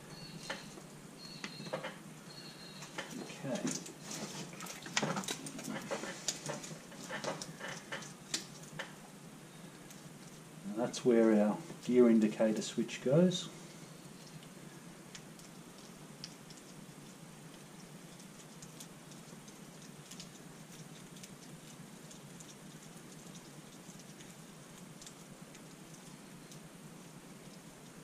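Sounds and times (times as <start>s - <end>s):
steady low hiss: 0.0s - 28.0s.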